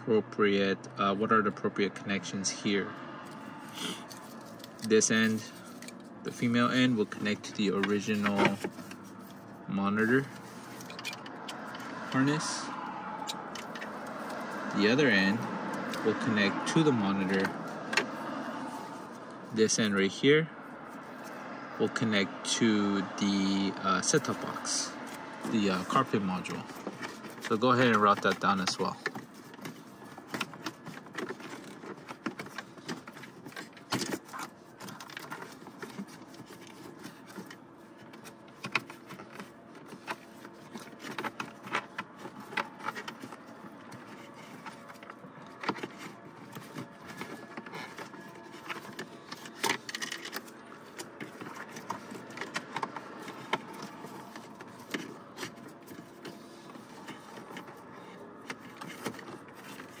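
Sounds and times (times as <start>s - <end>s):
cable rustling against plastic: 3.2s - 60.0s.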